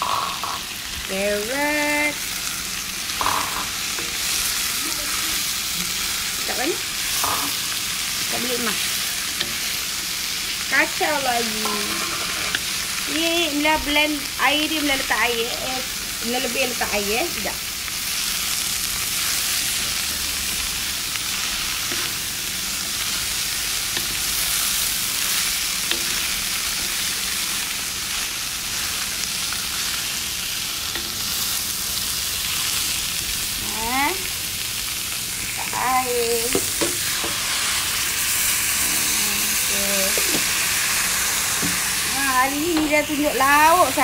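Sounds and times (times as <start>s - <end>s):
vegetables sizzling in a wok: 0.0s - 44.0s.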